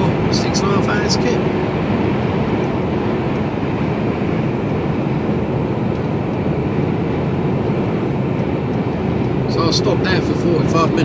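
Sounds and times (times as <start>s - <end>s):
lorry engine drone: 0.0s - 11.0s
road noise: 0.0s - 11.0s.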